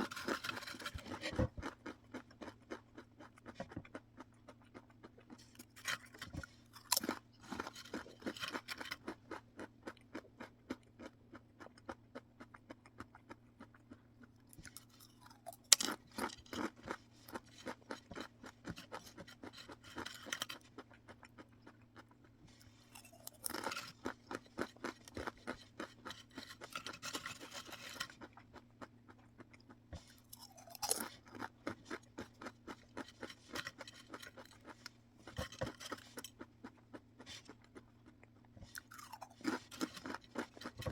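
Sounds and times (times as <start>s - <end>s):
crunchy snack being chewed: 0.0s - 40.9s.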